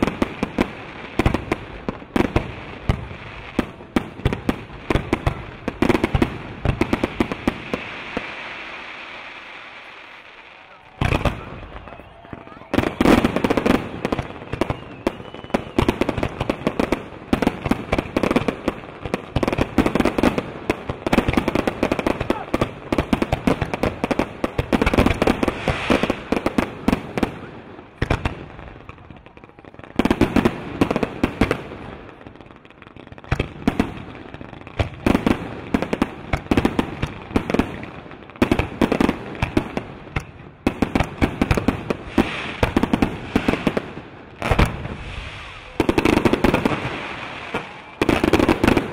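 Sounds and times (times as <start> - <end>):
fireworks bursting and crackling: 0.0 - 48.9.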